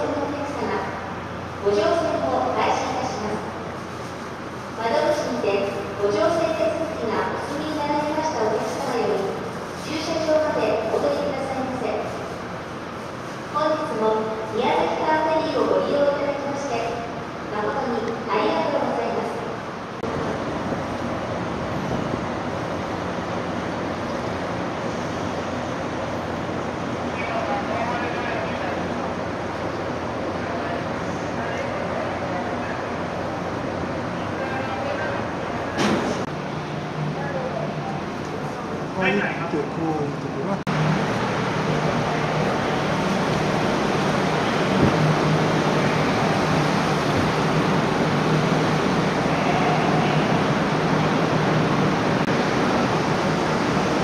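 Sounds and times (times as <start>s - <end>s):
harbour background noise: 0.0s - 54.0s
machinery and ventilation fans rushing: 0.0s - 54.0s.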